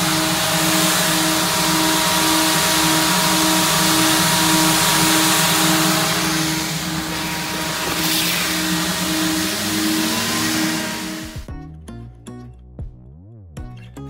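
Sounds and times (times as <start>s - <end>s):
air dryer blowers rushing: 0.0s - 11.5s
pulsing tone: 0.0s - 11.5s.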